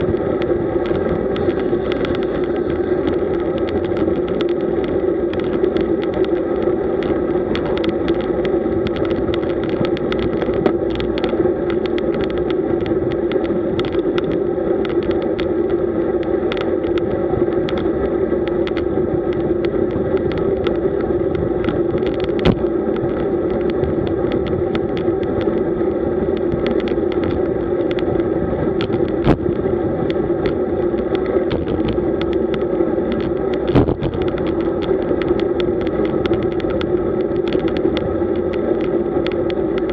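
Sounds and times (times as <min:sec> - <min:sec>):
bicycle clicks and knocks: 0:00.0 - 0:39.9
wind and tyres rushing hum: 0:00.0 - 0:39.9.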